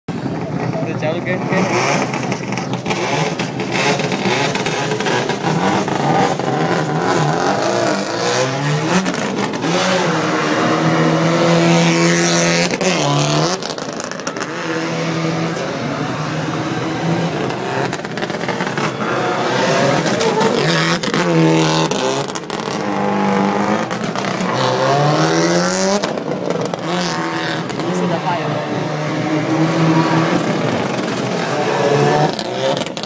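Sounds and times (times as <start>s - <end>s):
car engine revving hard: 0.1s - 33.0s
tyres spinning on tarmac: 0.2s - 33.0s.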